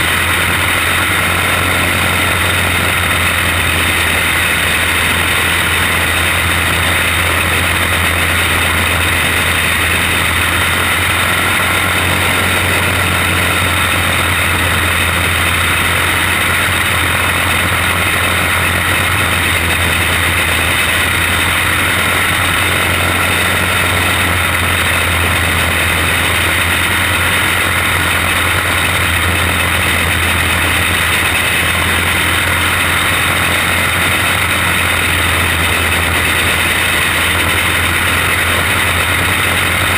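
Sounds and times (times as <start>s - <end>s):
kart engine droning: 0.0s - 39.9s.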